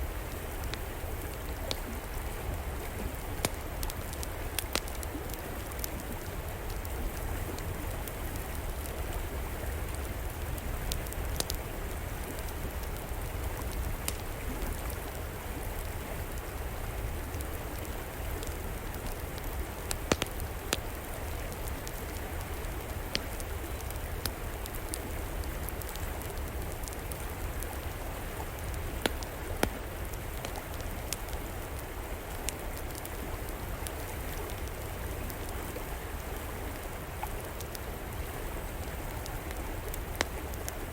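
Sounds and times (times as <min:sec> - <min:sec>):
river water flowing: 0:00.0 - 0:40.9
wood fire crackling: 0:00.0 - 0:40.9.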